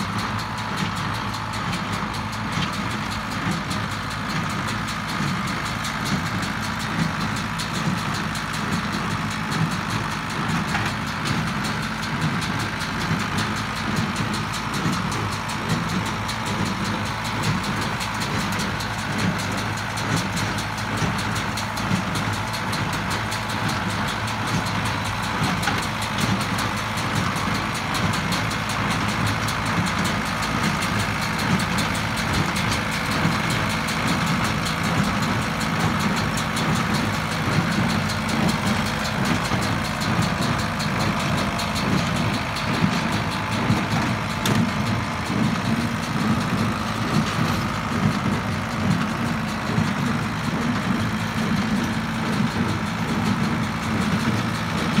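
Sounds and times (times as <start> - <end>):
hay baler working: 0.0 - 55.0
tractor diesel engine running: 0.0 - 55.0.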